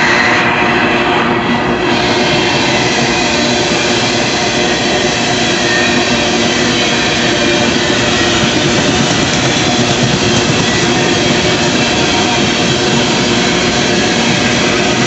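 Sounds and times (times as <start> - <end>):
steel wheels running on rails: 0.0 - 15.0.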